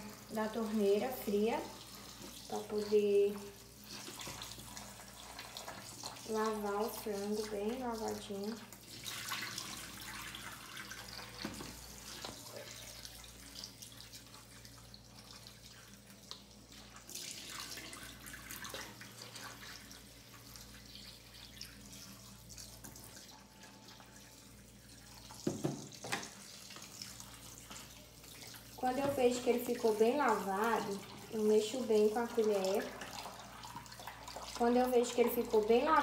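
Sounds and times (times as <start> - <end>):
water splashing into sink: 0.0 - 24.2, 25.0 - 36.0
tap water running into bowl: 0.0 - 36.0.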